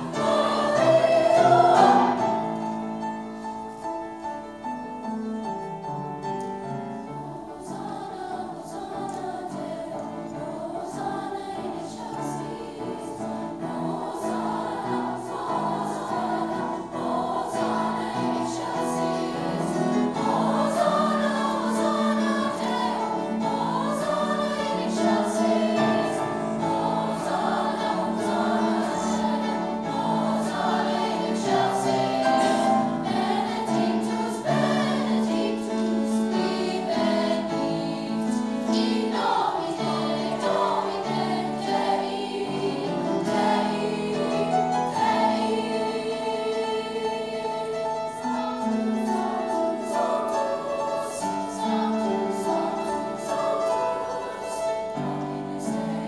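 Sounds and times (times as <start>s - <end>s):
youth choir singing: 0.0s - 4.1s, 6.8s - 56.0s
grand piano accompaniment: 0.0s - 56.0s.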